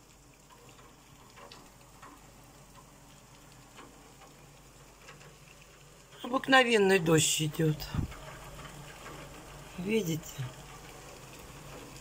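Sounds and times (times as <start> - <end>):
low steady hum: 0.0 - 12.0
raindrops ticking: 0.0 - 12.0.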